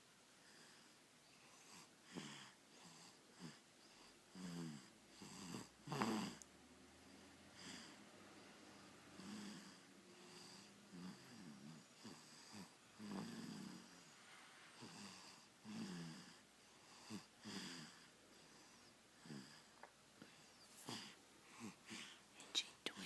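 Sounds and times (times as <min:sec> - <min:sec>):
baby snoring faintly: 0:00.4 - 0:23.0.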